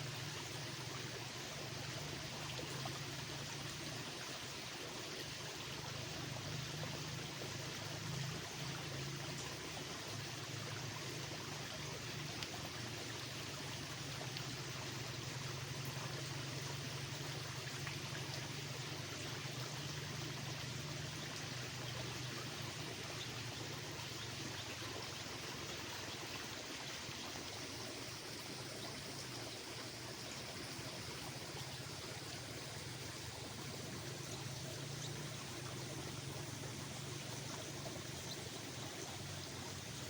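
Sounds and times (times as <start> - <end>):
rushing water-like noise: 0.0 - 40.0.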